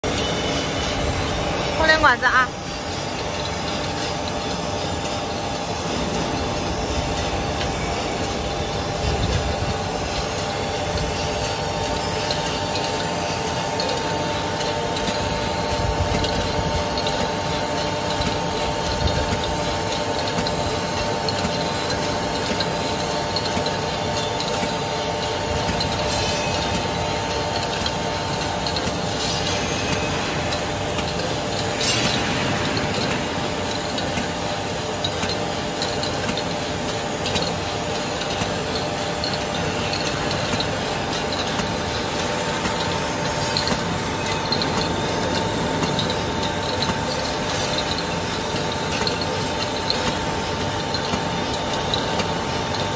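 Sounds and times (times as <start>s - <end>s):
machine rattling and hissing: 0.0s - 52.9s.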